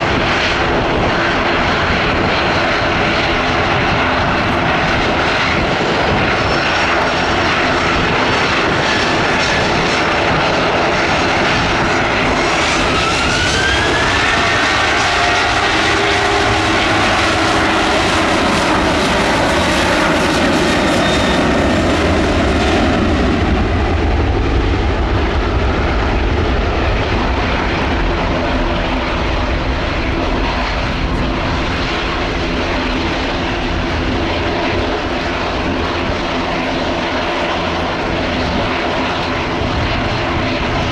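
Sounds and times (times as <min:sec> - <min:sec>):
deep rumble: 0:00.0 - 0:40.9
jet engines roaring: 0:00.0 - 0:40.9
rising engine whine: 0:00.0 - 0:40.9.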